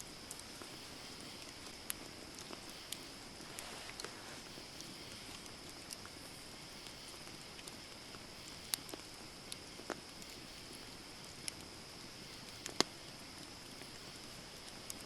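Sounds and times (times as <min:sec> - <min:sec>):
campfire hiss: 0:00.0 - 0:15.0
campfire crackling pops: 0:00.2 - 0:15.0.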